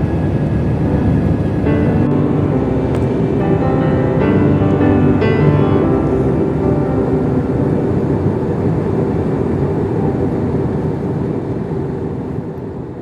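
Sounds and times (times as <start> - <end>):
vehicle running hum: 0.0 - 13.0.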